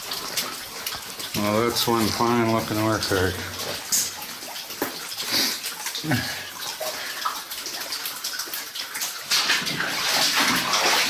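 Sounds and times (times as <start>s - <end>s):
water splashing underfoot: 0.0s - 11.0s.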